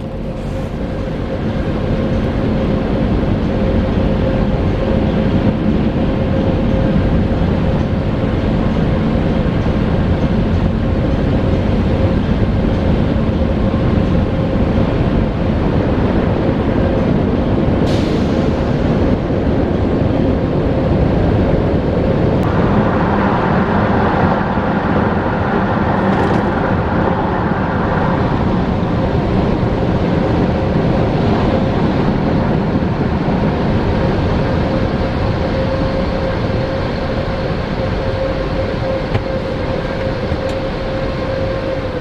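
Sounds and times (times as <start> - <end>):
blower whine: 0.0 - 42.0.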